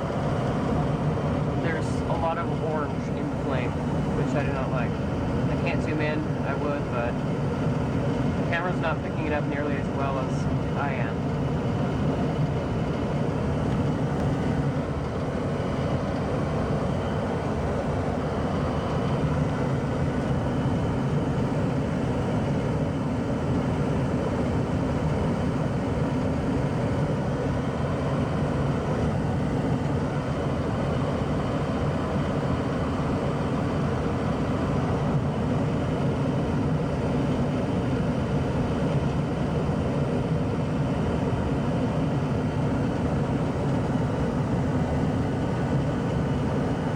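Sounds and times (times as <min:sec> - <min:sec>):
gas furnace running: 0:00.0 - 0:46.9.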